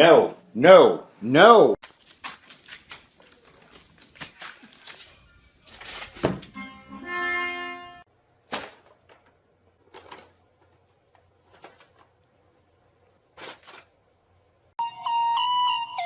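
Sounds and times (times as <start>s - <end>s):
faint room noise: 0.0s - 14.8s.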